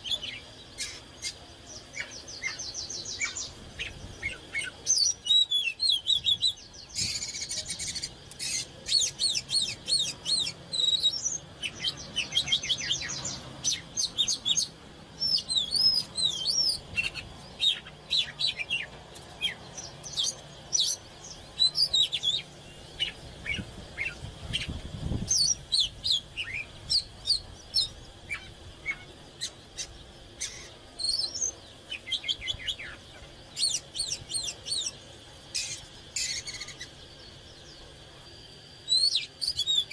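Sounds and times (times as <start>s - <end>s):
bird singing whistled phrases: 0.0s - 24.7s, 25.3s - 35.0s, 38.8s - 39.9s.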